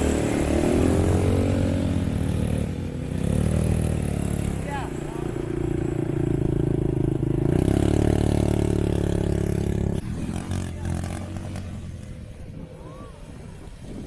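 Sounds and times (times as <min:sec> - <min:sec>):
quad bike engine revving: 0:00.0 - 0:12.8.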